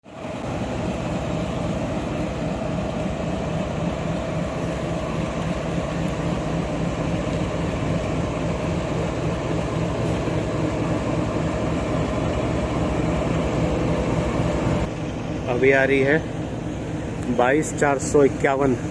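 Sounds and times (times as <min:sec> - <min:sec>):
train engine humming: 0:00.0 - 0:18.9.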